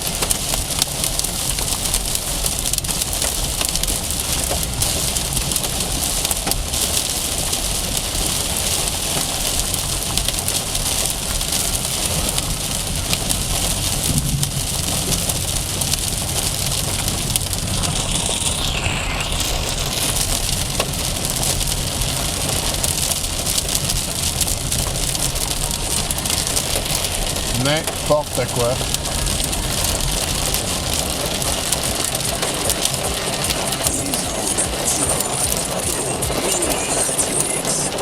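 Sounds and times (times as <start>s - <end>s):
low car rumble: 0.0s - 35.0s
rain pelting car roof: 0.0s - 38.0s.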